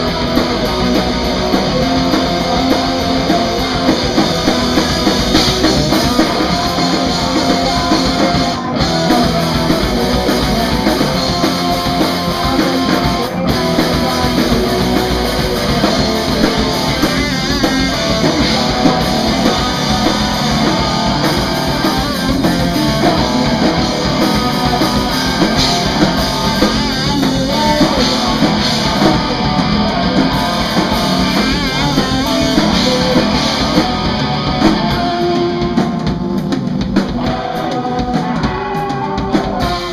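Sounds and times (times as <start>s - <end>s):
person singing: 0.0s - 36.2s, 37.1s - 39.9s
drums: 0.0s - 39.9s
electric guitar: 0.0s - 39.9s.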